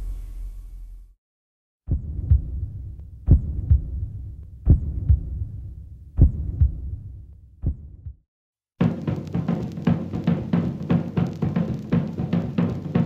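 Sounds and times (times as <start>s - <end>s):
heartbeat thumps: 1.9s - 8.2s, 8.8s - 13.0s.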